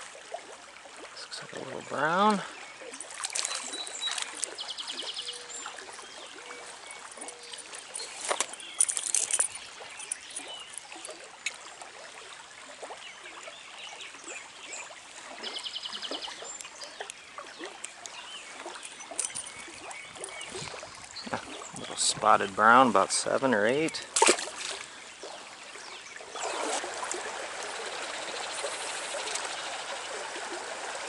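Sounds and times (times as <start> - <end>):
stream trickling and burbling: 0.0 - 31.0.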